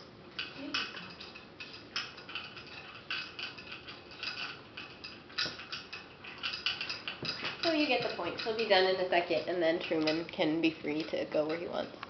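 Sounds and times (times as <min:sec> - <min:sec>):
dog eating from food bowl: 0:00.3 - 0:12.0.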